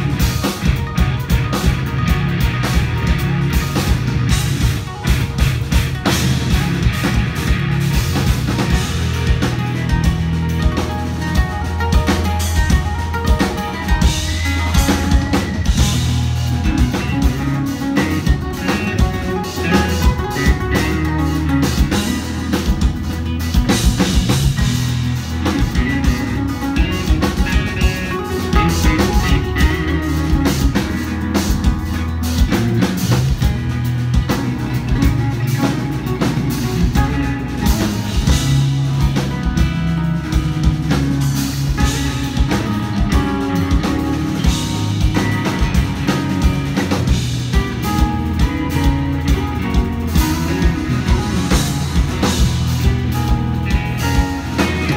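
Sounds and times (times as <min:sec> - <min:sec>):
electric guitars: 0:00.0 - 0:54.9.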